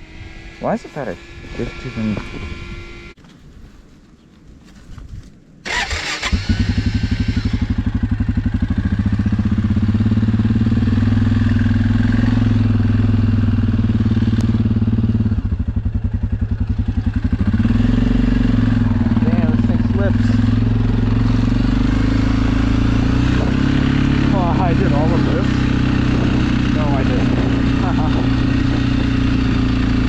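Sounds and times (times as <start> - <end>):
atv engine starting and idling: 5.6 - 30.0.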